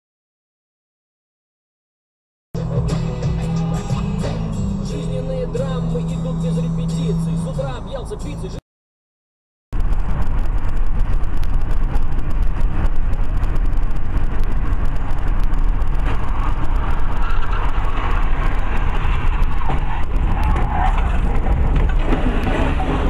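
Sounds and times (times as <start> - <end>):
car road and engine rumble: 2.6 - 8.6, 9.8 - 23.0.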